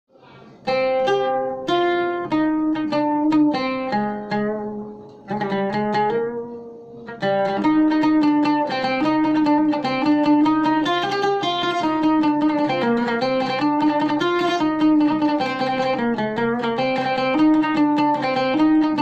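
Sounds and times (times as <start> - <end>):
oud melody: 0.6 - 19.0.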